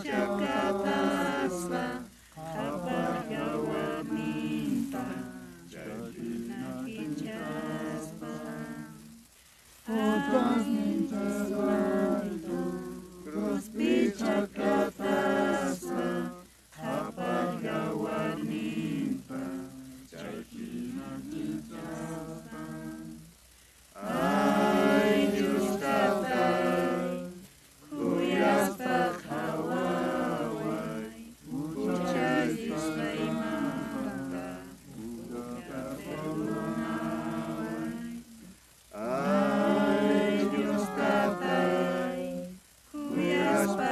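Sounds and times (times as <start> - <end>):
voices singing a hymn: 0.0 - 43.9.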